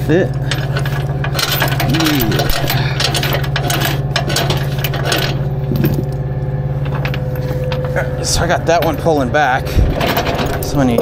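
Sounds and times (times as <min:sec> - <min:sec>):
engine idling: 0:00.0 - 0:11.0
metal hardware clicking and rattling: 0:00.0 - 0:11.0.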